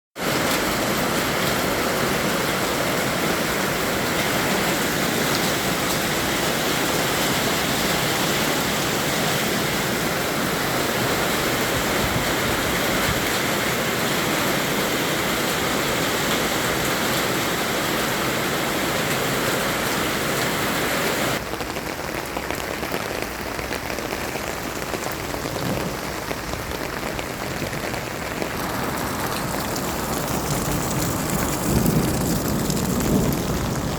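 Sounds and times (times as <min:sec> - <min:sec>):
heavy rain pattering: 0:00.2 - 0:33.9.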